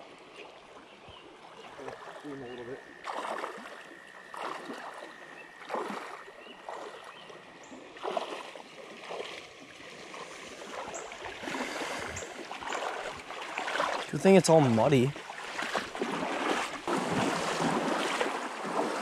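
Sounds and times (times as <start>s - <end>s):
water sloshing and splashing: 0.0s - 19.0s
stream current rushing: 1.7s - 19.0s.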